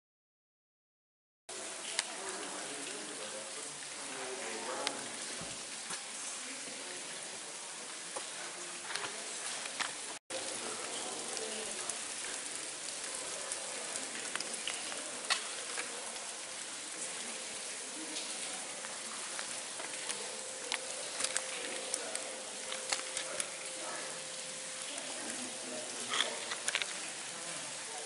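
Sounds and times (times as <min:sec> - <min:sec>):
water dripping and trickling: 0:01.5 - 0:28.0
sharp drips and clicks: 0:01.6 - 0:28.0.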